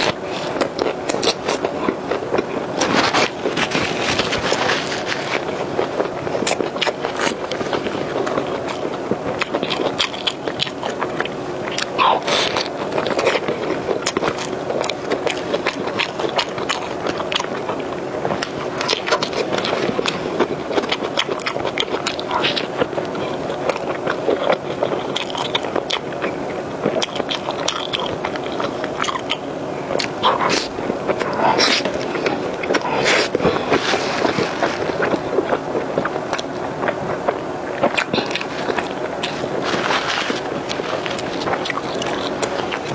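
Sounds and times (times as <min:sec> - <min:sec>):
biting and chewing food: 0:00.0 - 0:42.9
steady hum: 0:00.0 - 0:42.9.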